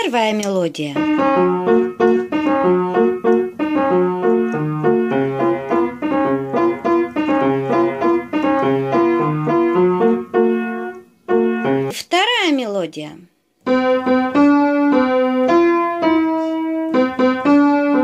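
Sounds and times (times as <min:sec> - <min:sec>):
upright piano melody: 0:01.0 - 0:11.9, 0:13.6 - 0:18.0.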